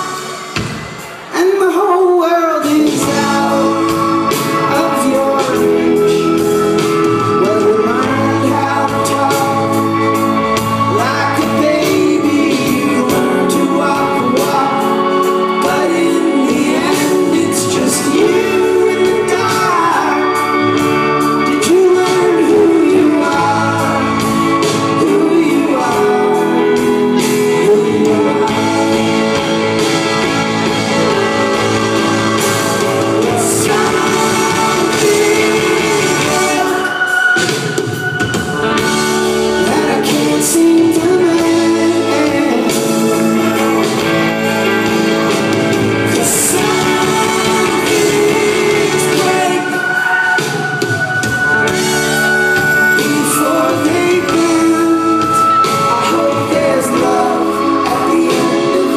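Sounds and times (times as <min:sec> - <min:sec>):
live rock band playing: 0:00.0 - 0:58.9
person singing: 0:00.0 - 0:58.9.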